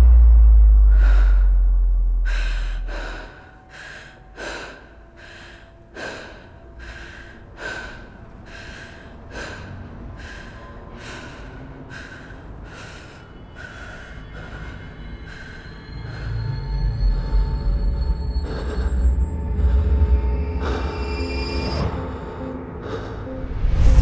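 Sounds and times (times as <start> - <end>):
faint steady drone: 0.0 - 24.0
heavy rhythmic breathing: 0.0 - 24.0.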